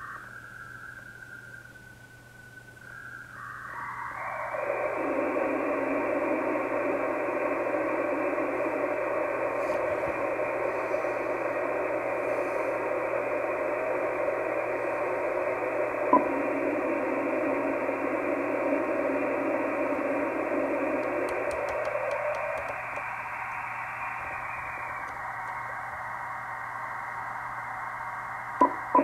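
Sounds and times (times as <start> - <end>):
radio receiver hiss: 2.8 - 29.0.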